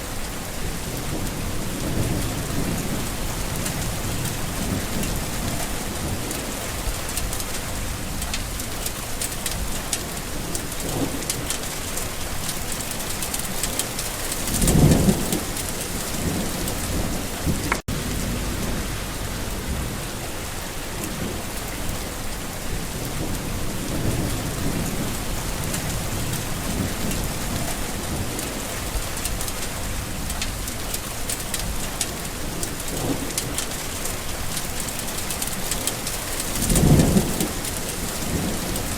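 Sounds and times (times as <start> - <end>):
steady rain: 0.0 - 38.9
low rumble of thunder: 0.2 - 12.8, 13.6 - 38.9.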